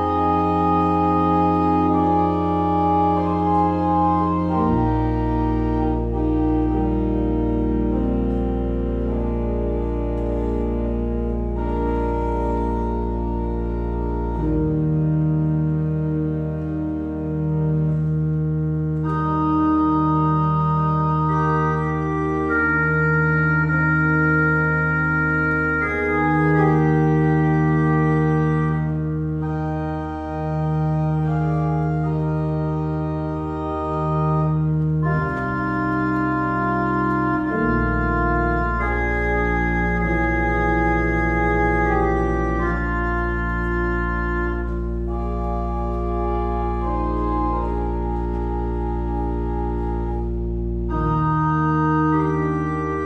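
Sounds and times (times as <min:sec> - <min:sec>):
church organ chords: 0:00.0 - 0:53.0
low organ bass note: 0:00.0 - 0:53.0.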